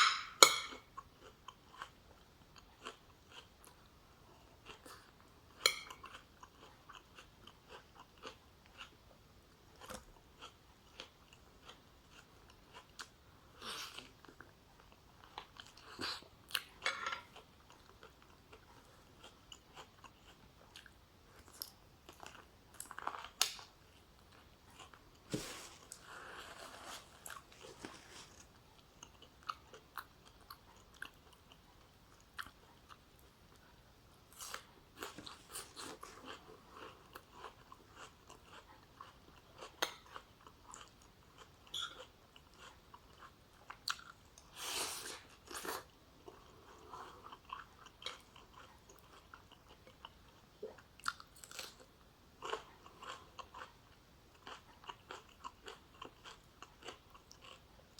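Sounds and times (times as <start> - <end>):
person chewing and crunching food: 0.0 - 57.9.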